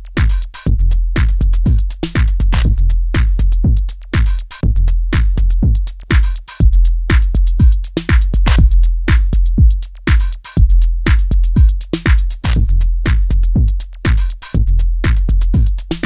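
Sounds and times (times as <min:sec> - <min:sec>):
drum machine beat: 0:00.0 - 0:16.0.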